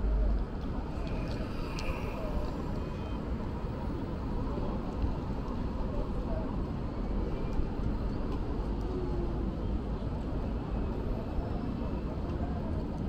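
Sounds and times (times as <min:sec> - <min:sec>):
city street rumble: 0:00.0 - 0:13.0
faint indistinct voices: 0:00.0 - 0:13.0.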